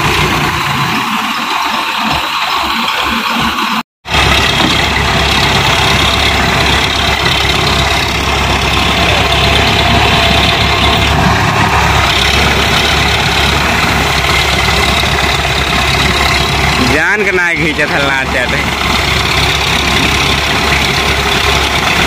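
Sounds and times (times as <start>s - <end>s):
diesel tractor engines under load: 0.0s - 22.0s.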